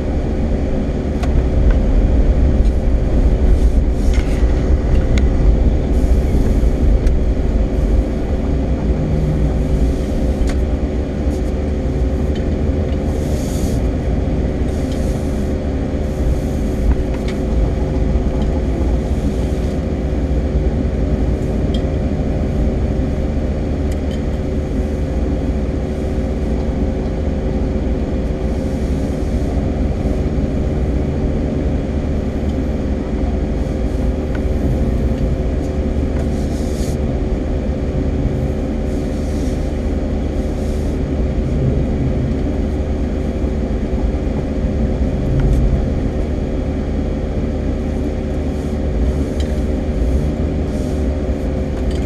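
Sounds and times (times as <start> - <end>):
car engine hum: 0.0 - 52.0
road rumble: 0.0 - 52.0.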